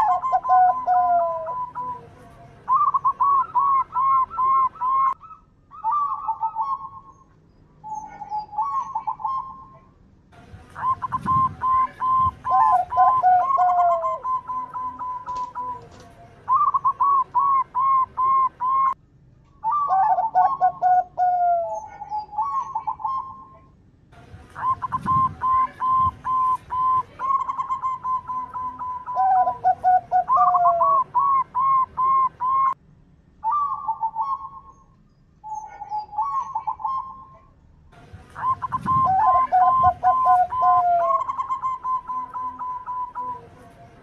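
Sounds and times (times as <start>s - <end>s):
dove cooing: 0.0s - 7.2s, 7.8s - 9.8s, 10.8s - 19.0s, 19.6s - 23.7s, 24.6s - 32.8s, 33.4s - 34.7s, 35.4s - 37.5s, 38.3s - 44.0s.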